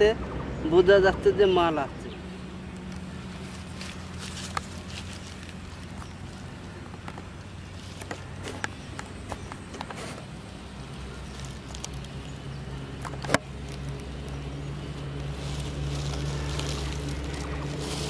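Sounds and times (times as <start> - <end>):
distant engine drone: 0.0 - 18.0
hands rustling mud and leaves: 2.6 - 18.0.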